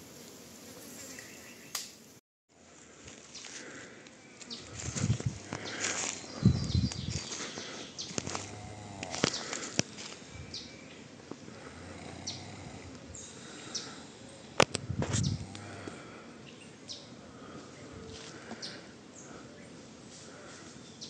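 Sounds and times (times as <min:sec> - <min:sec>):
faint insect hum: 0:00.0 - 0:21.0
birds chirping: 0:00.8 - 0:02.0, 0:03.2 - 0:21.0.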